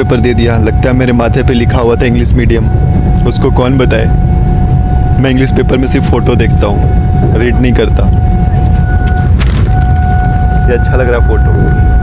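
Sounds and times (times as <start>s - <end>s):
held steady tones: 0.0s - 12.0s
low rumble: 0.0s - 12.0s.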